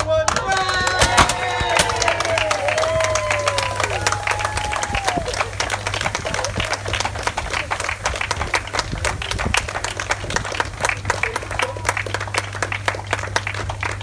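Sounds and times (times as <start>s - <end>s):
people clapping: 0.0s - 14.0s
steady low hum: 0.7s - 14.0s.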